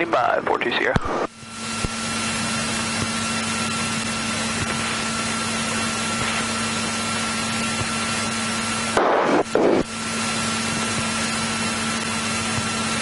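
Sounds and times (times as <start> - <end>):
aircraft engine idling in cabin: 0.0 - 13.0.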